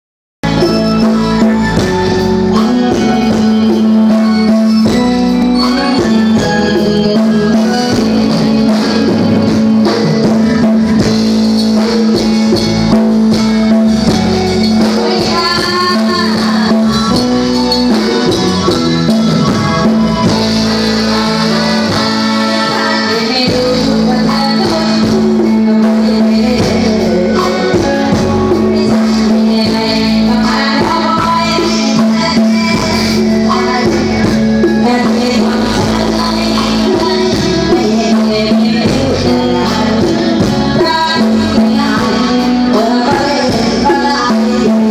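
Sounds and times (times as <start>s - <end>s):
live band music over sound system: 0.4s - 44.9s.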